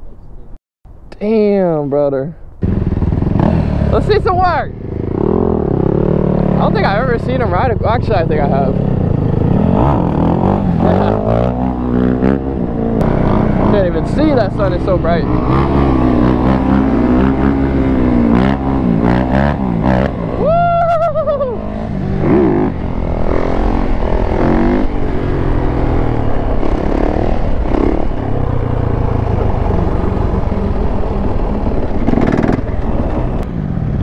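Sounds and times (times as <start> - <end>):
dirt bike engines revving: 2.6 - 34.0.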